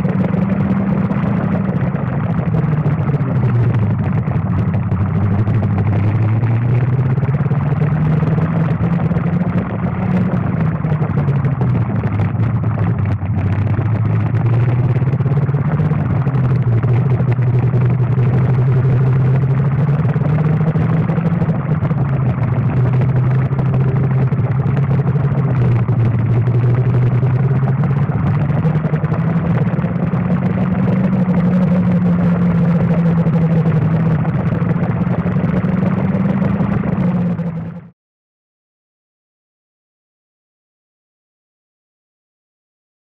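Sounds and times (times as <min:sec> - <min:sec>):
kart engine at high revs: 0:00.0 - 0:12.2, 0:12.8 - 0:37.7.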